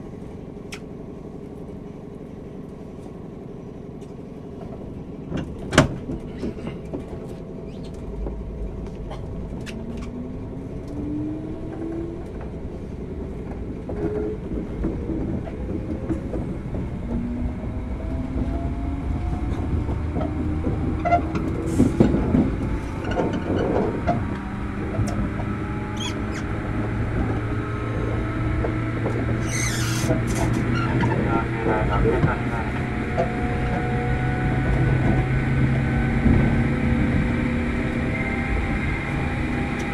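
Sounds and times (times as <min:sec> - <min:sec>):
wheel and rail rumble: 0:00.0 - 0:39.9
train traction motors whining: 0:02.5 - 0:39.9
crackles and squeals: 0:06.1 - 0:39.9.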